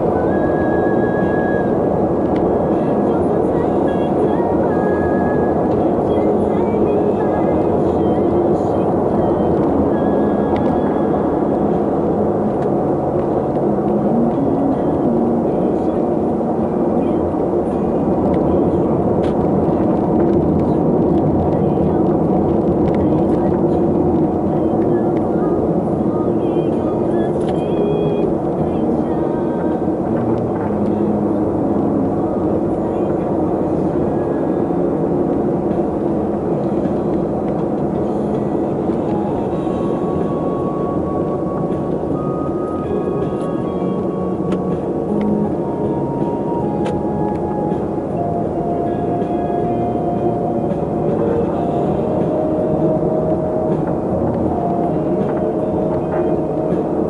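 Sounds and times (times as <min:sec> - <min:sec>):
low engine hum: 0:00.0 - 0:57.0
vehicle road noise: 0:00.0 - 0:57.0.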